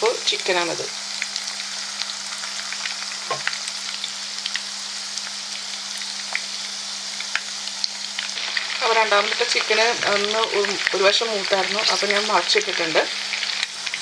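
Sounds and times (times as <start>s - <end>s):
chicken deep-frying in hot oil: 0.0s - 14.0s
oil popping and crackling: 1.1s - 14.0s.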